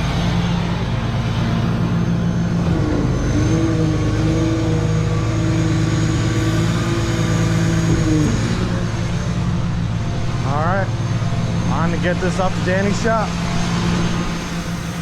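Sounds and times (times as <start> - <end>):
tow truck engine droning: 0.0 - 15.0.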